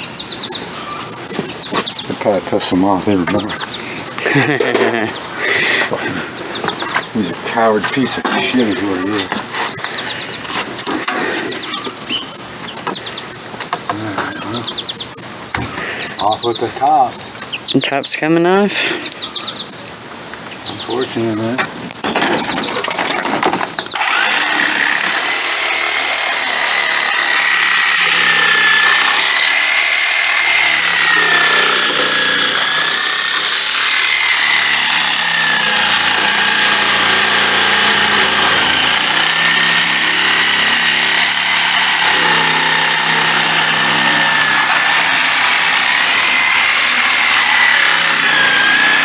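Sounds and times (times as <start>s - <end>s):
power tool whining under load: 0.0s - 17.9s, 18.7s - 49.0s.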